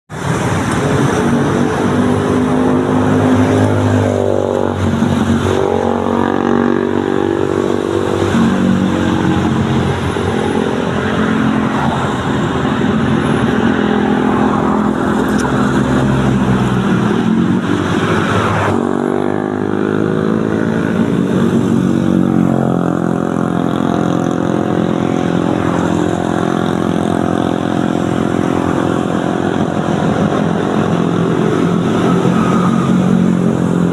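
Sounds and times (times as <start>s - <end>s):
motorcycles and cars passing: 0.1s - 33.9s.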